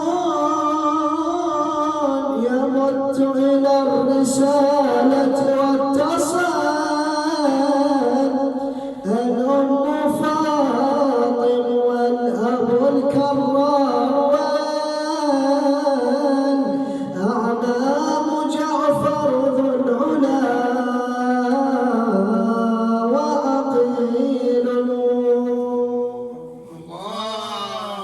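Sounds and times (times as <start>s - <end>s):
man chanting melodically: 0.0s - 28.0s.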